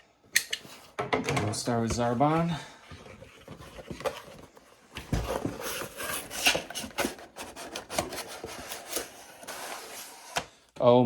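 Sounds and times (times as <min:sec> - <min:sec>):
cardboard and plastic rubbing: 0:01.7 - 0:10.7.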